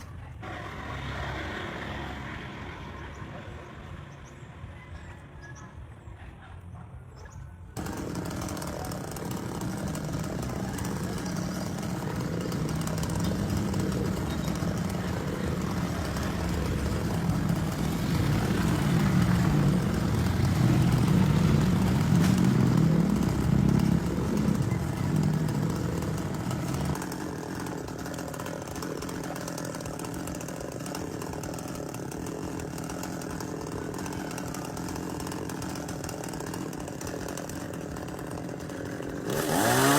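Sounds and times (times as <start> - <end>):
chainsaw running: 0.4 - 3.0, 7.8 - 39.9.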